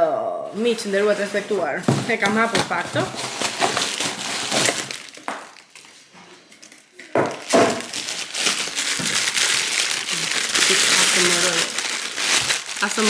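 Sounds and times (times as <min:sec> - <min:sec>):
packaging rustling and crinkling: 0:00.9 - 0:13.0.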